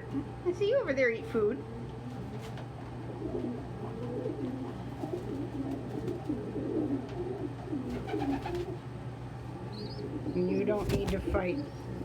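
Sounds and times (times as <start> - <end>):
pigeons cooing: 1.6 - 12.0.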